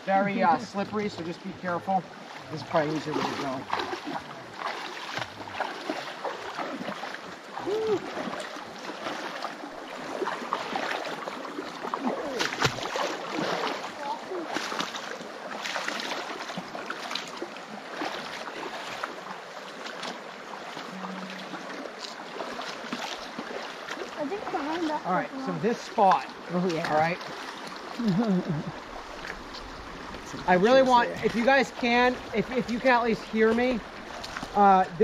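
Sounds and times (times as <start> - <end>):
stream rushing: 0.0 - 35.0
water splashing around legs: 0.8 - 35.0.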